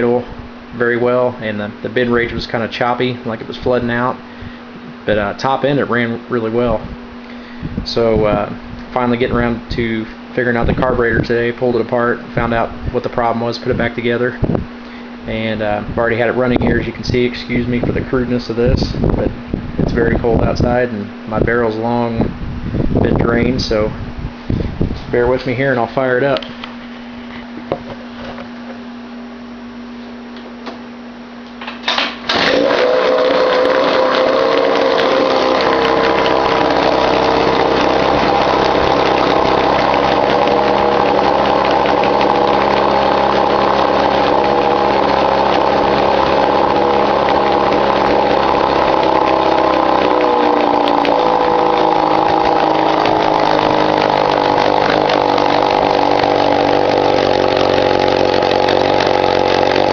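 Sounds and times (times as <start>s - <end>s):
outboard motor running: 0.0s - 22.1s, 31.9s - 59.9s.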